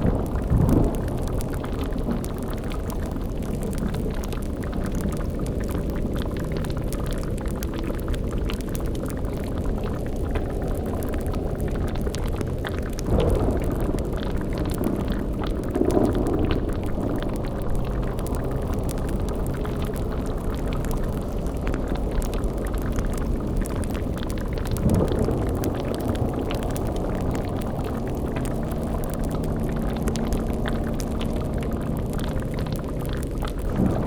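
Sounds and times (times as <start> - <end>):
cauldron bubbling: 0.0 - 34.0
fire crackle: 0.0 - 34.0
low buzzing hum: 0.0 - 34.0.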